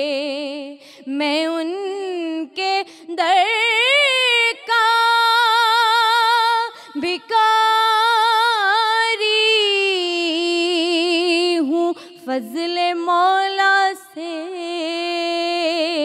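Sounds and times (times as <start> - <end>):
woman singing with vibrato: 0.0 - 16.0.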